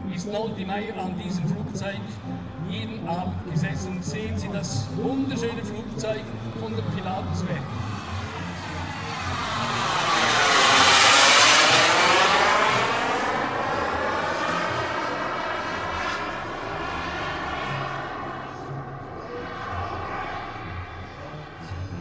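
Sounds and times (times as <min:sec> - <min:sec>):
model jet turbines flying past: 0:03.3 - 0:22.0.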